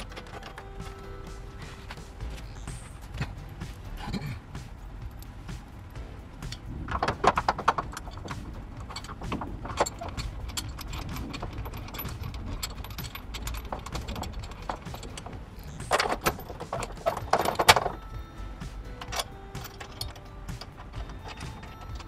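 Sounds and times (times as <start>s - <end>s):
metal hardware clinking: 0.0s - 4.0s, 6.4s - 22.0s
sharp metallic clicks: 0.0s - 22.0s.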